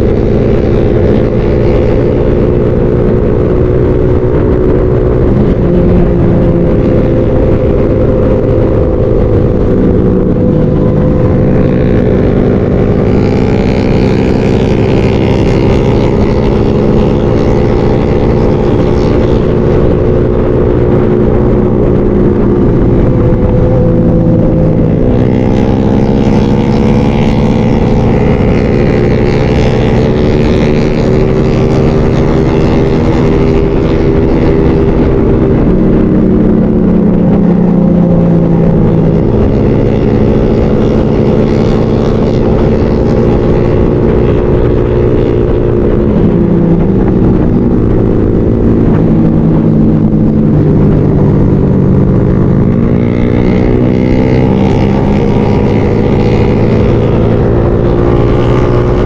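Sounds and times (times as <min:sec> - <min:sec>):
motorcycle engine running: 0:00.0 - 0:59.0
steady rushing noise: 0:00.0 - 0:59.0.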